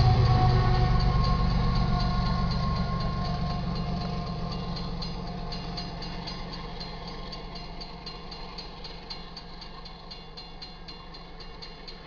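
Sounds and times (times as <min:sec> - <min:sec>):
crossing warning bell ringing: 0:00.0 - 0:12.0
low rumble of freight train: 0:00.0 - 0:12.0.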